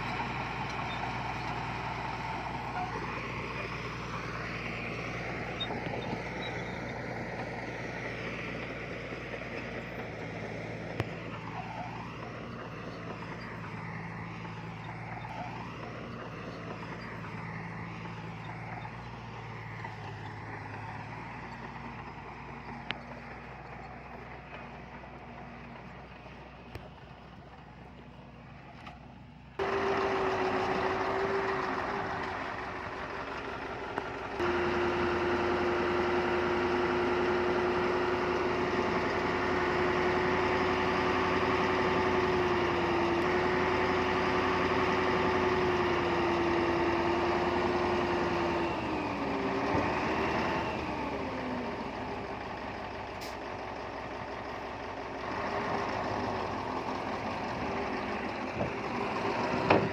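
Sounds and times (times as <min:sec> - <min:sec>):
heavy diesel engine whining: 0:00.0 - 0:59.9.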